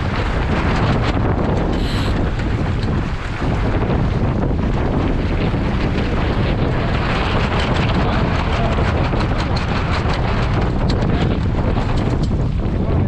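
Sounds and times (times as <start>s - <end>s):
water splashing along hull: 0.0s - 13.0s
wind on microphone: 0.0s - 13.0s.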